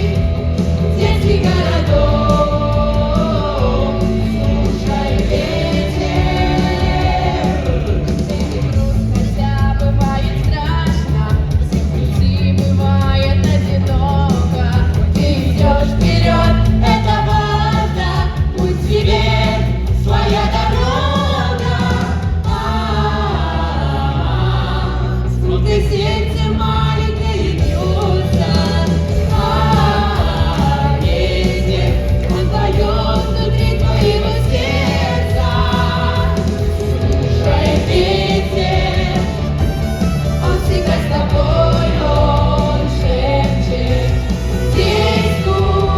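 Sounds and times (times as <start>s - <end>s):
voices singing: 0.0s - 11.4s, 12.4s - 45.9s
strong bass line: 0.0s - 45.9s.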